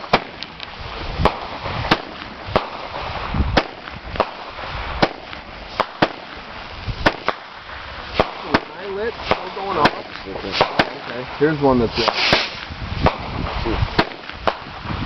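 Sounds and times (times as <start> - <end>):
deep fireworks booms: 0.0 - 15.0
fireworks cracks and bangs: 0.0 - 15.0
fireworks hiss: 0.0 - 15.0.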